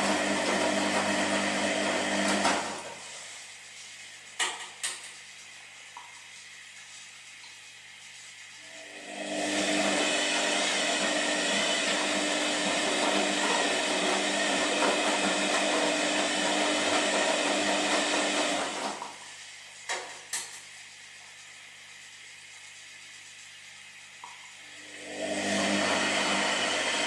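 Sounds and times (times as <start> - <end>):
washing machine whirring: 0.0 - 27.0.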